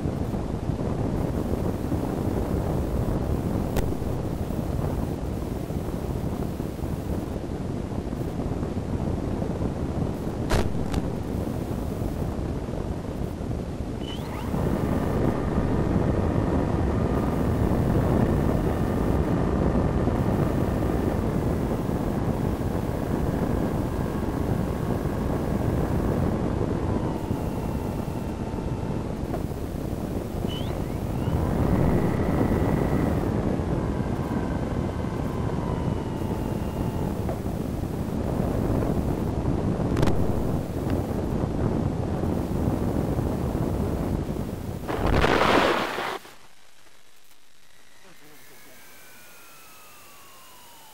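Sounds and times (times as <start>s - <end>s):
wind rushing on microphone: 0.0s - 46.4s, 47.3s - 50.9s
faint steady whine: 0.0s - 50.9s.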